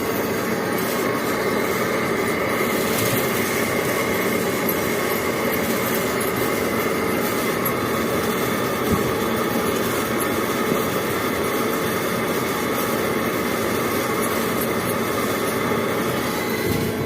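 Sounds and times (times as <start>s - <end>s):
lathe running with whine: 0.0s - 17.0s.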